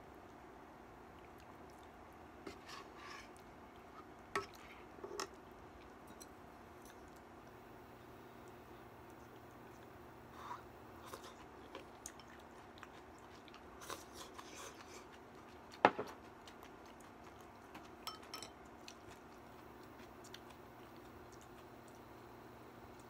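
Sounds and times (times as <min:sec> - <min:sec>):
faint chewing: 0:00.1 - 0:23.0.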